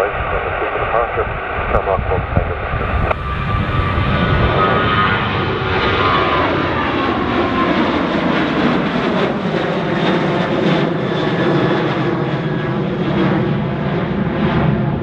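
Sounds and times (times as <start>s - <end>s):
jet engines at climb power: 0.0s - 15.0s.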